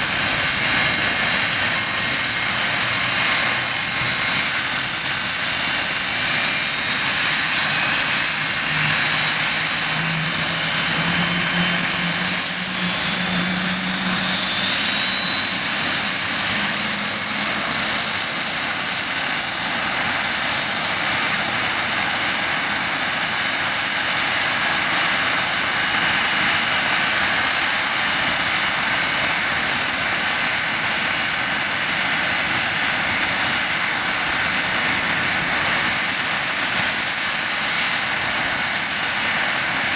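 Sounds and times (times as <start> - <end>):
high engine whine rising: 0.0 - 39.9
jet engines running: 0.0 - 39.9.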